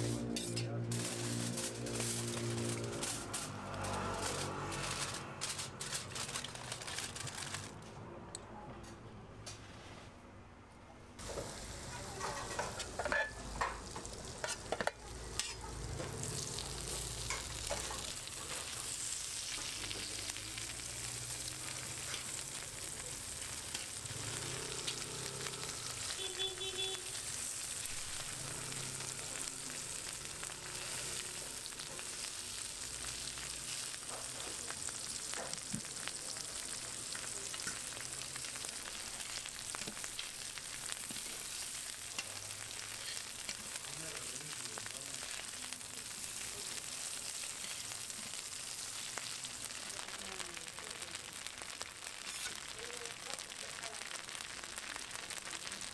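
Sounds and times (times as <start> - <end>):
ham sizzling on a griddle: 0.0 - 7.8, 11.2 - 55.9.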